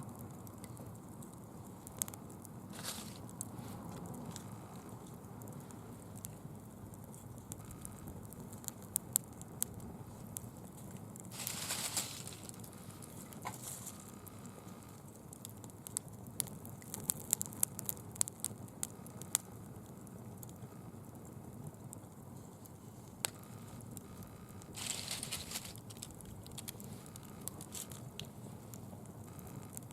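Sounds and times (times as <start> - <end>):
fire crackling and popping: 0.0 - 29.9
low rush of fire: 0.0 - 29.9
fire hissing: 1.0 - 21.4, 22.3 - 29.9.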